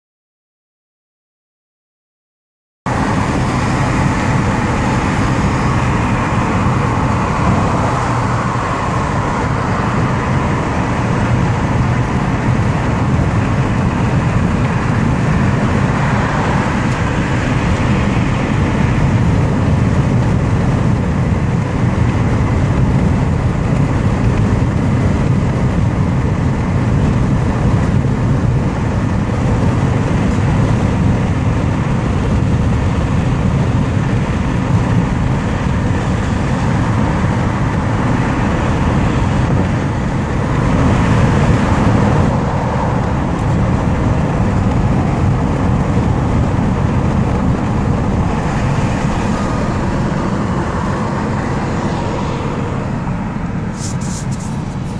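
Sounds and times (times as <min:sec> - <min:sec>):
car road noise at speed: 0:02.9 - 0:54.9.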